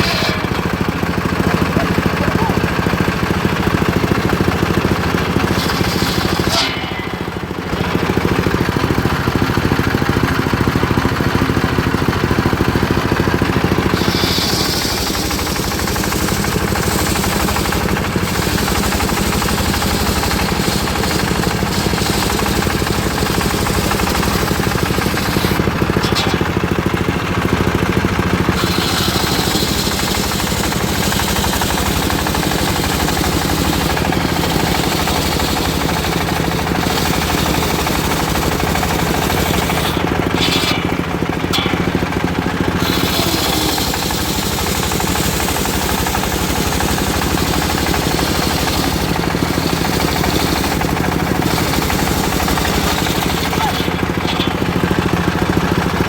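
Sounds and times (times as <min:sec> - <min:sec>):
sawmill engine drone pulsing: 0:00.0 - 0:56.0.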